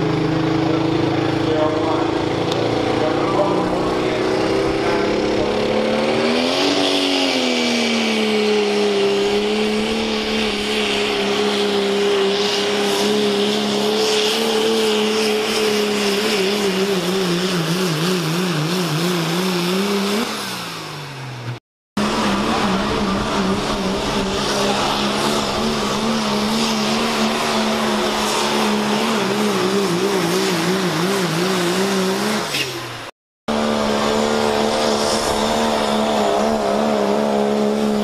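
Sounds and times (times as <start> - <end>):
diesel truck engine at full throttle: 0.0 - 38.0
diesel truck running hard: 0.0 - 38.0.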